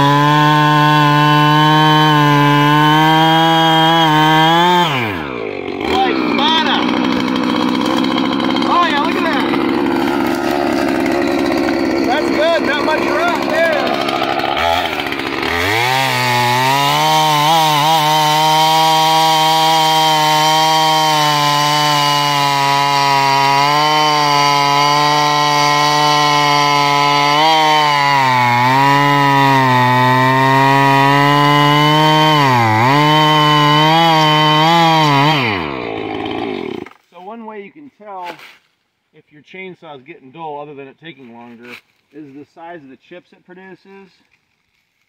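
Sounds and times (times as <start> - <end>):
chainsaw cutting log: 0.0 - 37.1.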